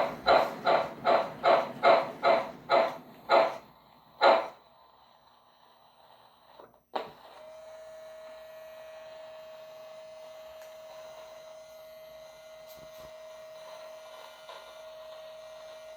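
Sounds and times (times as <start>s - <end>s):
small electric motor whining: 1.4s - 15.9s.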